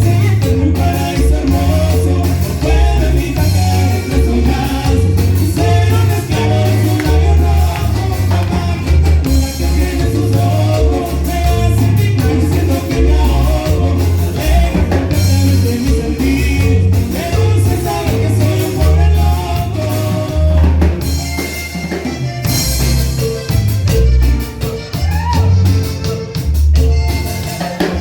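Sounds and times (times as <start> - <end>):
band music with drums: 0.0 - 28.0.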